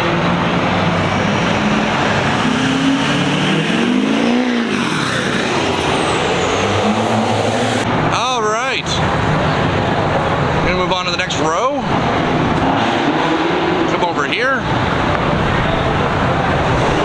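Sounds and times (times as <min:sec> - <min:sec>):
car engines running: 0:00.0 - 0:17.0
engine revving: 0:00.0 - 0:17.0.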